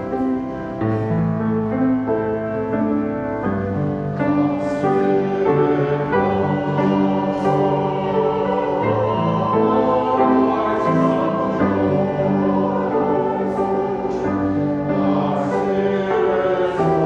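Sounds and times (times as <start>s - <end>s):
choir singing a hymn: 0.0s - 17.0s.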